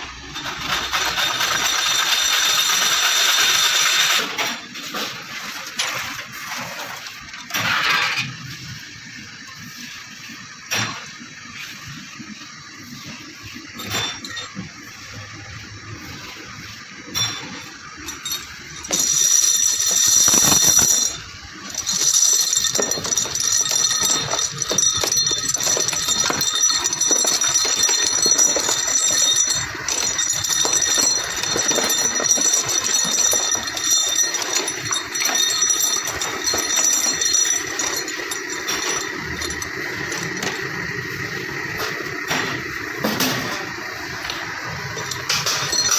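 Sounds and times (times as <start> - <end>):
machine whining and clattering: 0.0 - 45.9.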